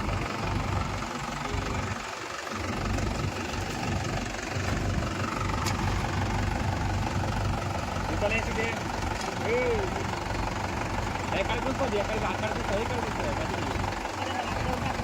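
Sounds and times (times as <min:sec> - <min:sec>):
diesel tractor engine rumbling: 0:00.0 - 0:15.0.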